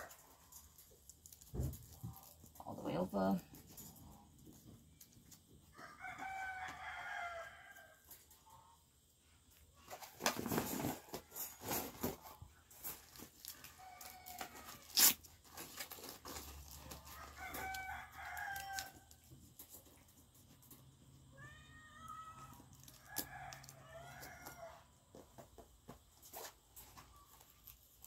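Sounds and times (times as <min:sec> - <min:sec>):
rustling and handling noise: 0:00.0 - 0:08.4, 0:09.2 - 0:21.4, 0:22.1 - 0:28.0.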